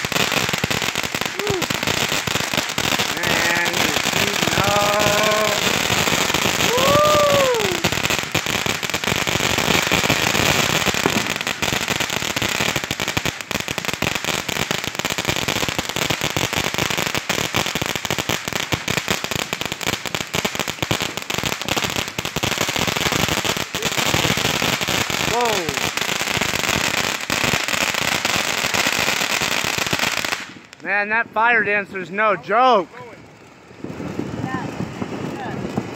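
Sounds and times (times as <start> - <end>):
firework sparks crackling: 0.0 - 35.9.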